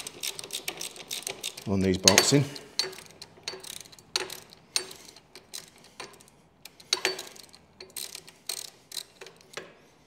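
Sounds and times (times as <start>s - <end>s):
hand ratchet clicking: 0.0s - 9.8s.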